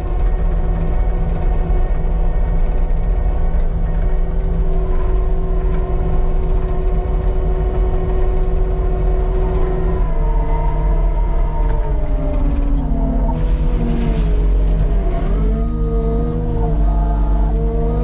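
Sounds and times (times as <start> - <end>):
diesel engine running under load: 0.0 - 18.0
engine whine: 0.0 - 18.0.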